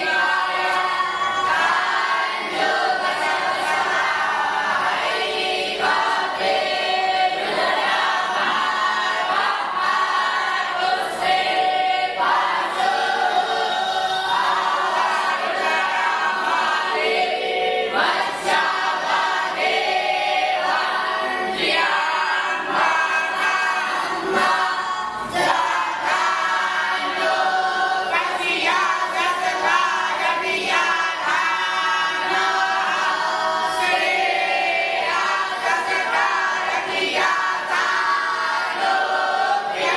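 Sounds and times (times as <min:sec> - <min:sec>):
choir singing in unison: 0:00.0 - 0:39.9.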